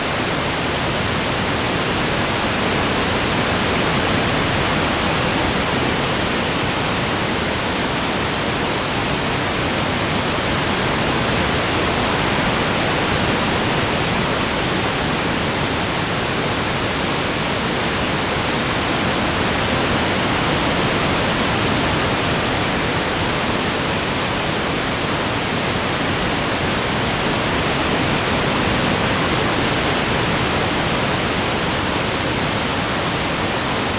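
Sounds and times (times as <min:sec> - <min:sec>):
steady rushing wind: 0:00.0 - 0:33.9.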